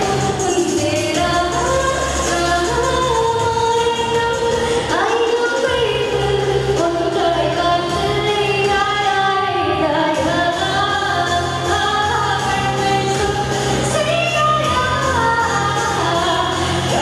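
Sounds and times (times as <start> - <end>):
backing music with bass notes: 0.0 - 17.0
woman singing into microphone: 0.0 - 17.0.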